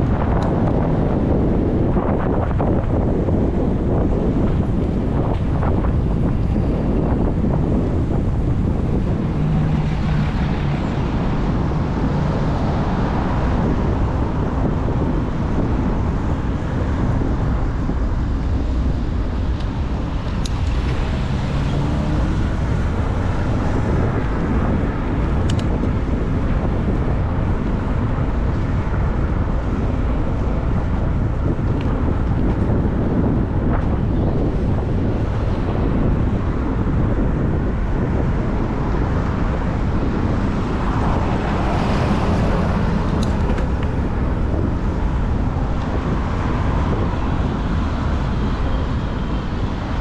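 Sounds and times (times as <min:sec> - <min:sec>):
road traffic noise: 0:00.0 - 0:50.0
wind rumbling on microphone: 0:00.0 - 0:50.0.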